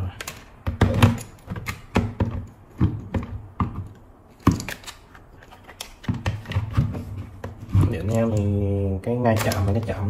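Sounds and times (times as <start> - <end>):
plastic clicks and knocks: 0.2 - 8.5.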